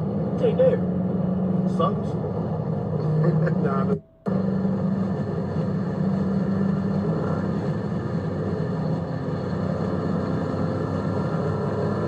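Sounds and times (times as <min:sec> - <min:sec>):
car engine running steadily: 0:00.0 - 0:12.0.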